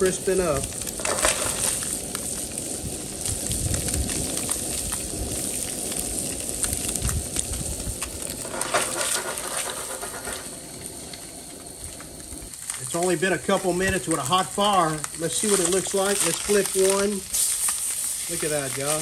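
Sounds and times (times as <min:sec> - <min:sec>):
fish frying in butter: 0:00.0 - 0:19.0
gas burner roar: 0:00.0 - 0:19.0.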